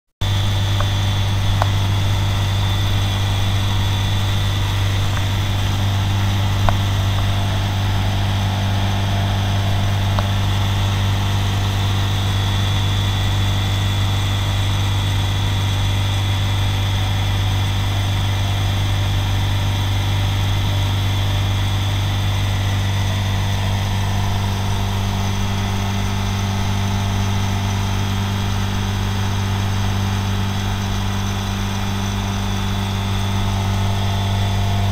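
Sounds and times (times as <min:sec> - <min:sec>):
light aircraft engine drone: 0:00.2 - 0:34.9.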